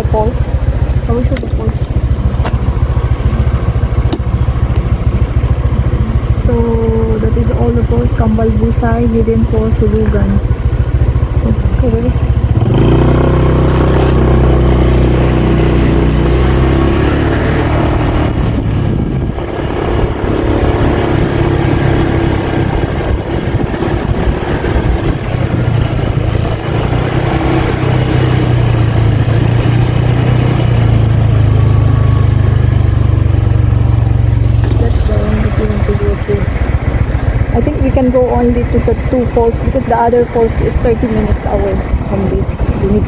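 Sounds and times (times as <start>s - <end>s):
road and wind noise: 0.0s - 43.0s
vehicle engine running: 0.0s - 43.0s.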